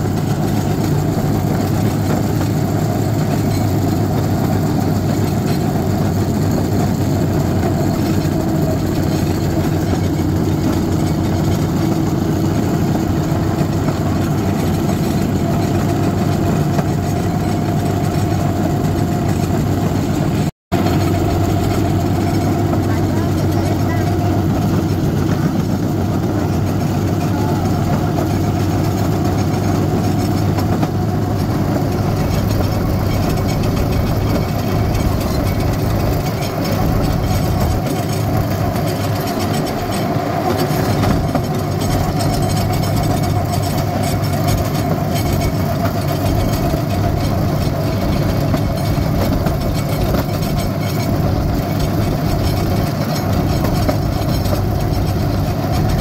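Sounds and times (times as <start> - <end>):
small engine running: 0.0 - 56.0
wheels rattling on track: 0.0 - 56.0.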